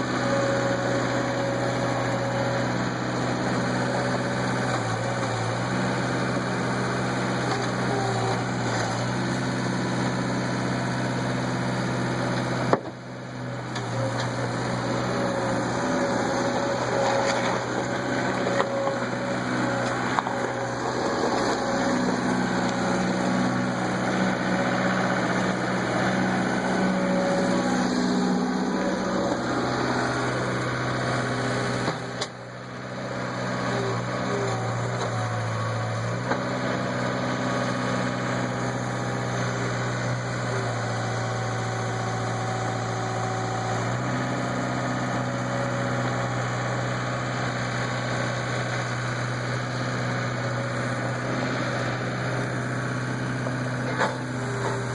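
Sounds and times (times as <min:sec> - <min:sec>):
skid steer engine running: 0:00.0 - 0:54.9.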